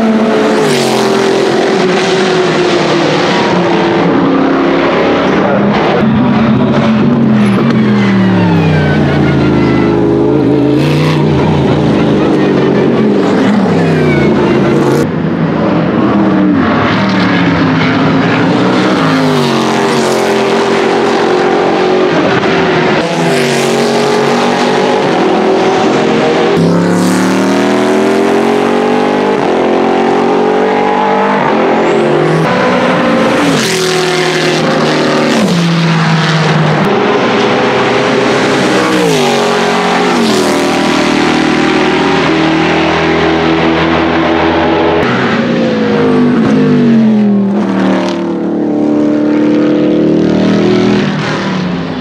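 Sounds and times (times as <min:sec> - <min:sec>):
racing car engines passing: 0:00.0 - 0:52.0.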